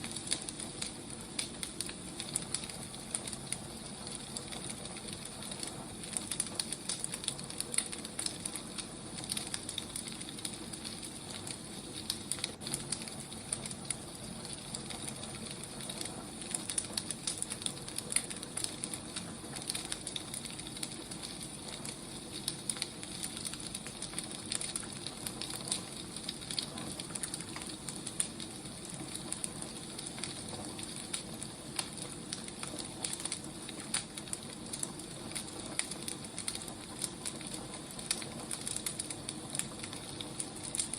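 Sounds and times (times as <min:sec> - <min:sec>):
steady fire hiss: 0:00.0 - 0:40.9
wood fire crackling: 0:00.0 - 0:40.9.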